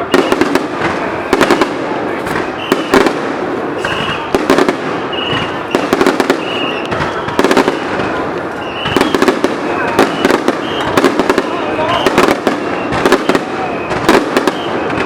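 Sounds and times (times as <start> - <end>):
fireworks cracking and popping: 0.0 - 15.0
fireworks whistling: 0.0 - 15.0.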